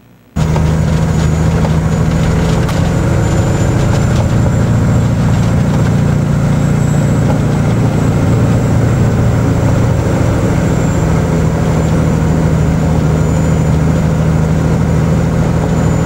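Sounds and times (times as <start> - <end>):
truck diesel engine running: 0.0 - 16.0
road noise: 0.4 - 16.0.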